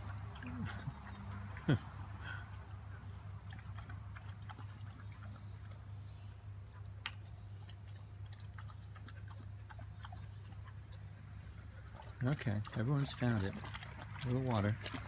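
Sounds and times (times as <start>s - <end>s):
dogs lapping water: 0.0s - 15.0s.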